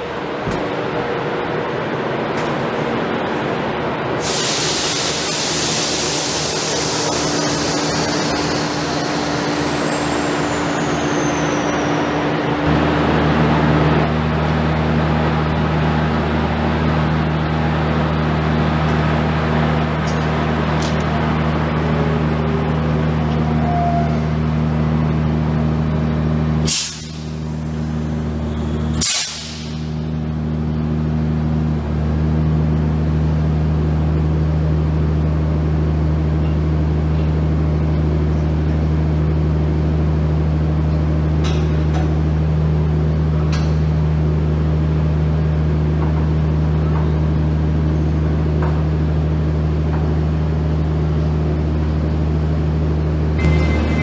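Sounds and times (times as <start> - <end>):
deep locomotive hum: 0.0 - 54.0.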